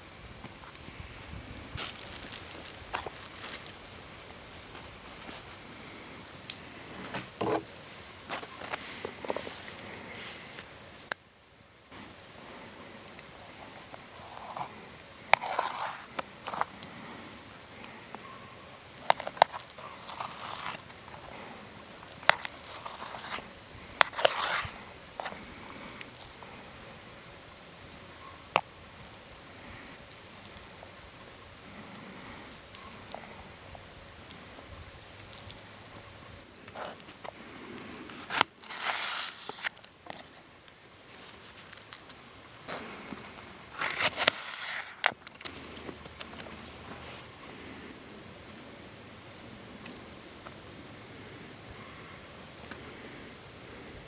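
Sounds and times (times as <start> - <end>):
campfire crackling: 0.1 - 54.0.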